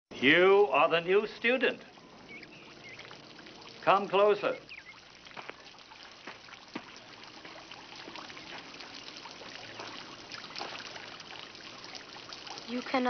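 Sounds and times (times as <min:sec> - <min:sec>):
water trickling and splashing: 0:00.3 - 0:13.0.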